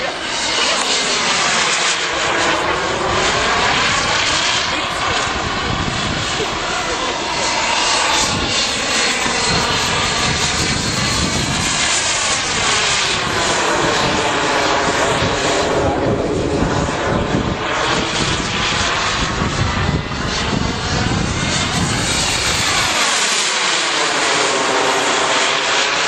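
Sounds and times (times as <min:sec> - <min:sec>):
model jet turbine rushing: 0:00.0 - 0:26.0.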